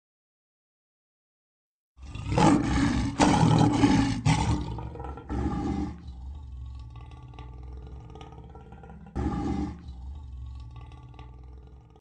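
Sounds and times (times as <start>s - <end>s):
lion roaring: 2.0s - 12.0s.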